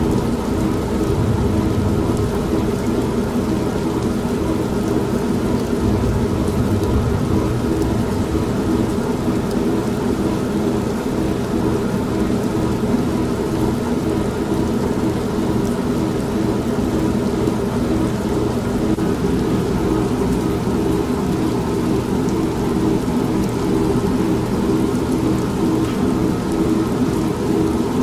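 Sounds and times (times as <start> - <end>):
steady rain: 0.0 - 28.0
washing machine humming: 0.0 - 28.0.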